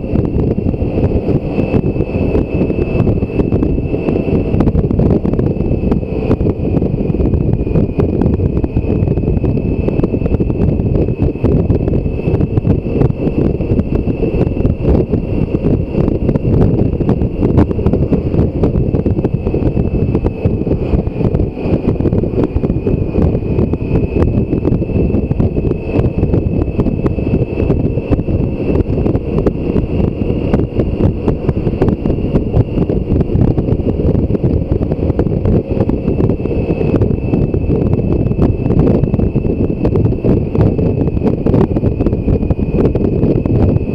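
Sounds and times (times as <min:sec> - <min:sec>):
thin high whine: 0:00.0 - 0:43.9
wind noise on microphone: 0:00.0 - 0:43.9.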